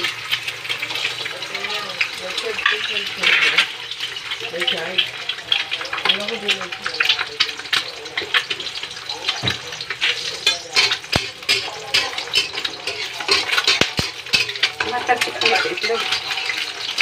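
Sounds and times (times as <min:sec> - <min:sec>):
eggs sizzling in oil: 0:00.0 - 0:17.0
spatula scraping and tapping pan: 0:02.0 - 0:17.0.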